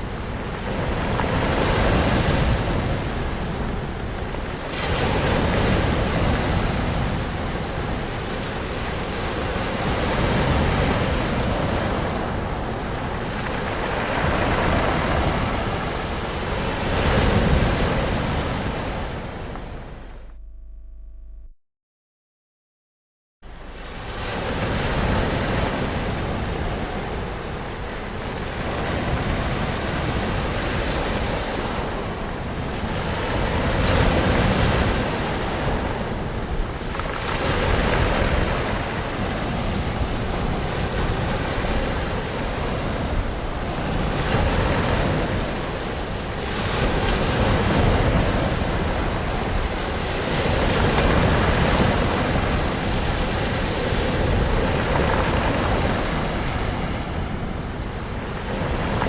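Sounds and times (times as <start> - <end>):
ocean waves breaking: 0.0 - 20.3, 23.5 - 59.0.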